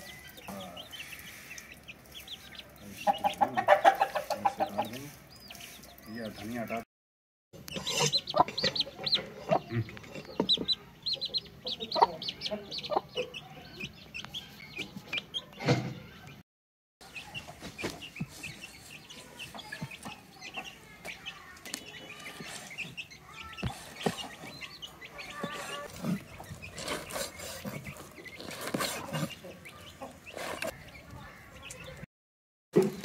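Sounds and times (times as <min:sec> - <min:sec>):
chickens clucking: 0:00.0 - 0:06.8, 0:07.6 - 0:16.4, 0:17.0 - 0:32.1.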